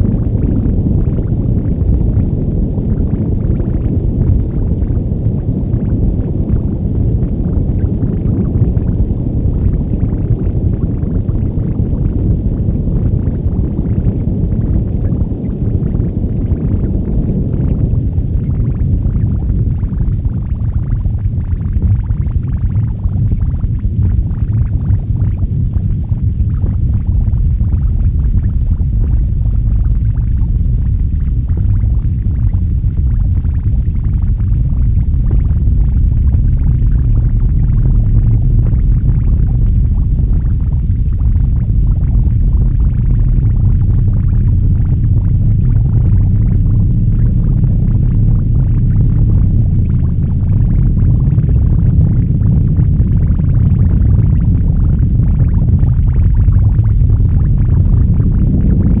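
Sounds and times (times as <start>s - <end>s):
low rumble drone with crackling: 0.0s - 59.0s.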